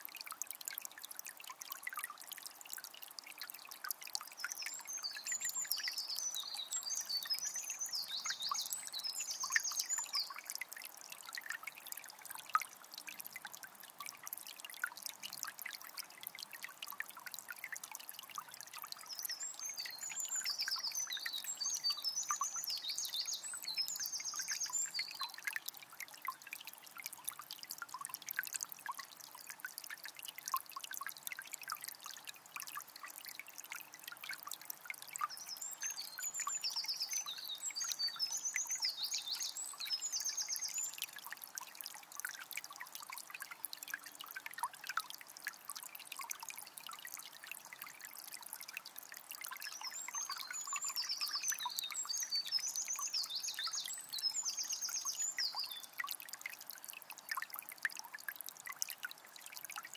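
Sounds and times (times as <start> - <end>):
river trickling: 0.0 - 59.9.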